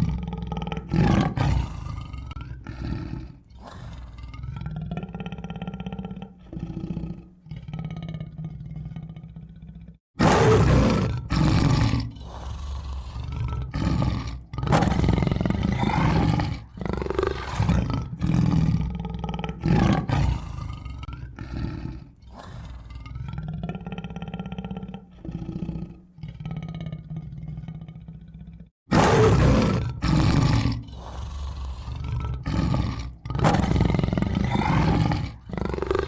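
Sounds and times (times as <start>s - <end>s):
tiger growling: 0.0s - 36.0s
tiger roaring: 0.0s - 36.0s.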